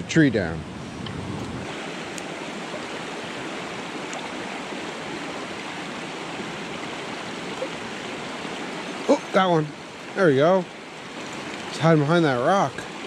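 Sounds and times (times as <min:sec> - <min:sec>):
water rushing over rocks: 0:00.4 - 0:13.0.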